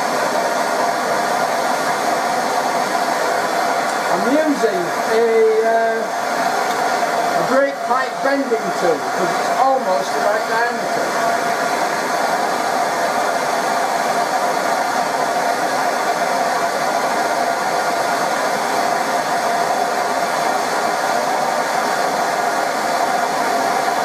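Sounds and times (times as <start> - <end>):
blow lamp hissing: 0.0 - 24.0.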